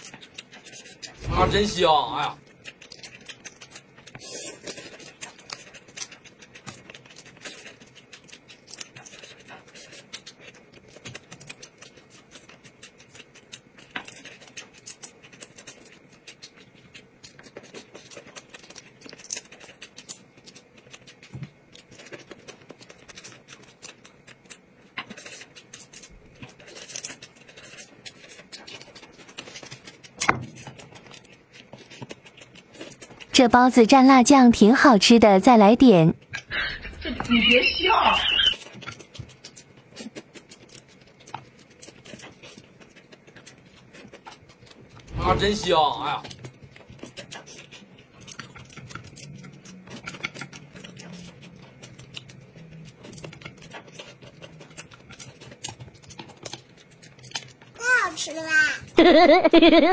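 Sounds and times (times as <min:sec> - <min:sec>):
small crackles and clicks: 0:00.0 - 0:33.5, 0:37.2 - 0:59.0
food chewing: 0:00.0 - 0:59.9.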